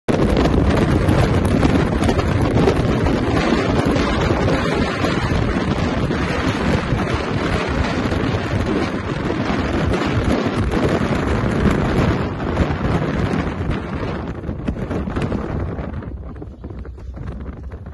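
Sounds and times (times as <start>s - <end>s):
wind buffeting microphone: 0.1s - 17.9s.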